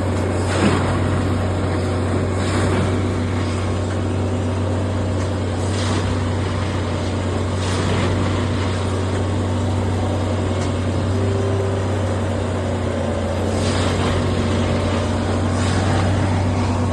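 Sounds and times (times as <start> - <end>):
heavy machinery engine droning: 0.0 - 16.9.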